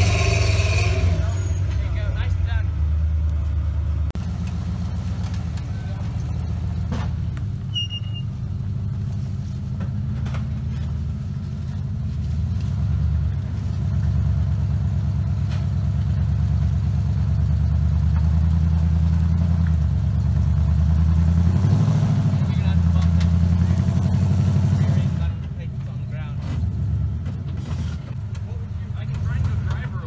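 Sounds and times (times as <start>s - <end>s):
truck engine at low revs: 0.0s - 30.0s.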